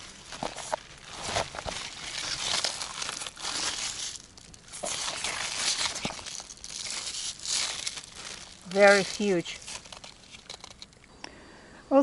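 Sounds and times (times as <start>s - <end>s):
leaves and vines rustling: 0.0s - 11.1s.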